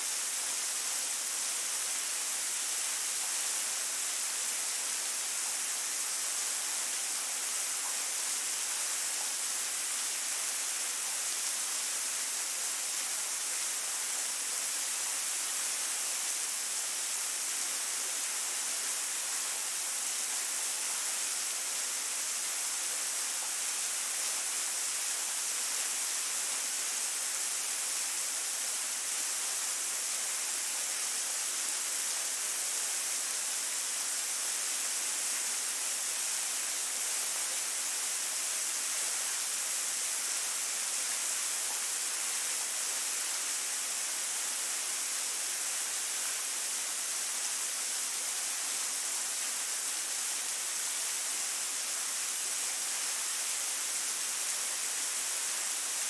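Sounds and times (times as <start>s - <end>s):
waterfall splashing onto rocks: 0.0s - 56.0s.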